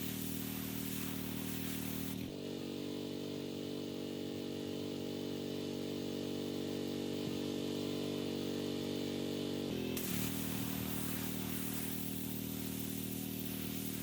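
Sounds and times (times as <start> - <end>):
pressure washer engine running: 0.0 - 14.0.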